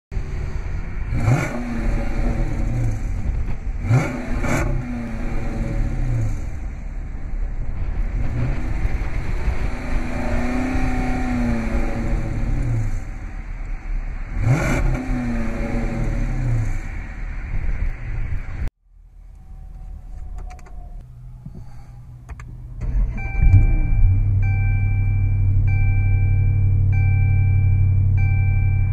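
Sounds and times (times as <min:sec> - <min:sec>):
car engine idling and revving: 0:00.1 - 0:28.9.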